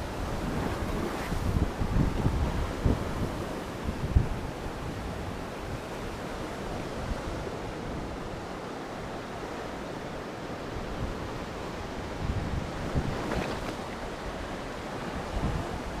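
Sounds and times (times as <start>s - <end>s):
wind blowing on microphone: 0.0s - 8.6s, 10.6s - 16.0s
waves washing: 0.0s - 16.0s.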